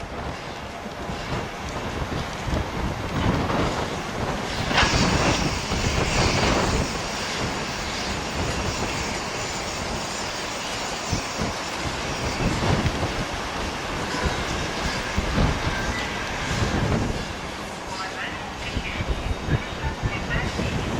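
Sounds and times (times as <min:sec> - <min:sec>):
train wheels clattering on rails: 0:00.0 - 0:18.9
steam train hissing: 0:00.0 - 0:20.9.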